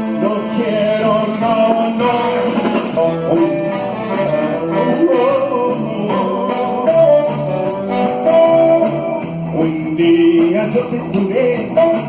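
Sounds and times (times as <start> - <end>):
live band playing a ballad: 0.0 - 12.0.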